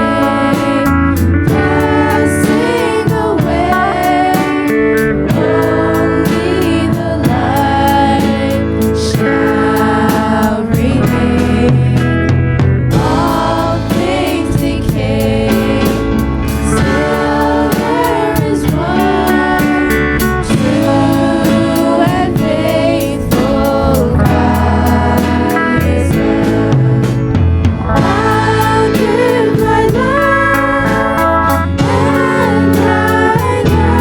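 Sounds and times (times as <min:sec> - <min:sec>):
person singing: 0:00.0 - 0:34.0
steady drum beat: 0:00.0 - 0:34.0
worship band playing: 0:00.0 - 0:34.0.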